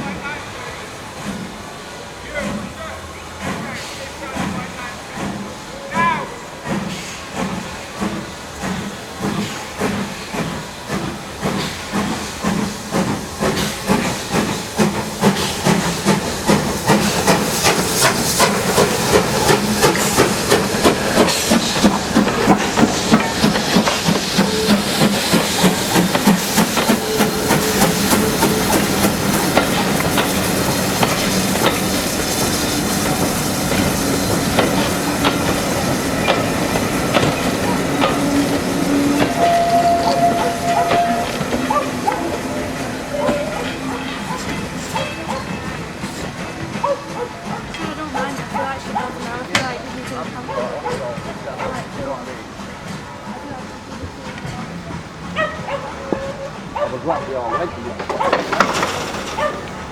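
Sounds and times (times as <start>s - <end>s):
steam hissing: 0.0s - 59.9s
steam locomotive exhaust chuffs: 0.0s - 59.9s.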